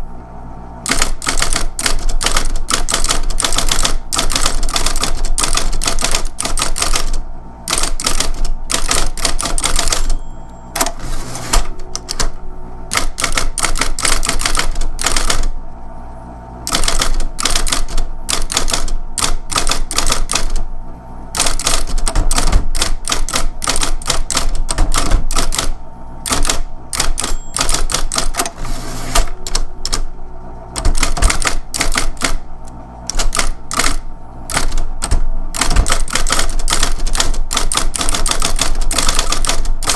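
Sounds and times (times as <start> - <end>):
typewriter motor hum: 0.8 - 15.6, 16.6 - 20.7, 21.3 - 39.9
typewriter key strikes: 0.9 - 12.3, 12.9 - 15.4, 16.7 - 20.6, 21.4 - 25.7, 26.3 - 28.6, 30.8 - 32.4, 33.1 - 39.9.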